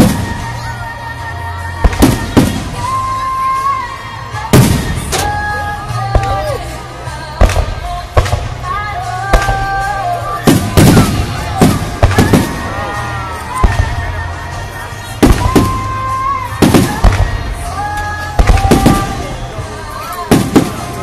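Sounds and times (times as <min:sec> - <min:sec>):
music playing: 0:00.0 - 0:21.0.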